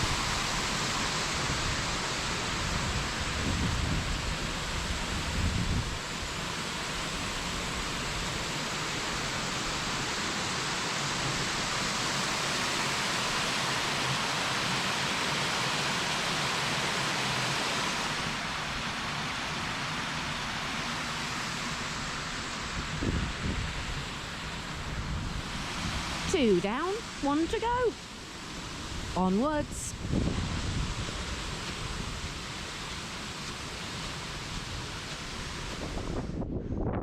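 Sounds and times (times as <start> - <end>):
waterfall rushing: 0.0 - 36.2.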